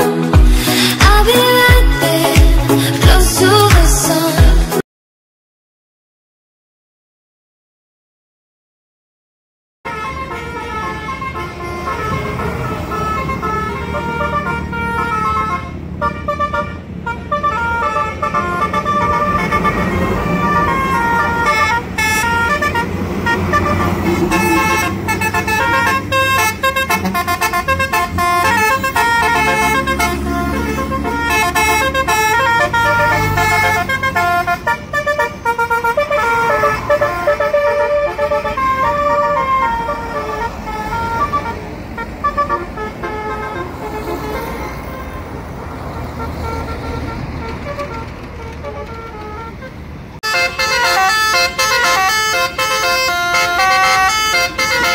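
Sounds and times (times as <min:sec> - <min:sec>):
bus musical horn tune: 0:00.0 - 0:04.8, 0:09.9 - 0:54.9.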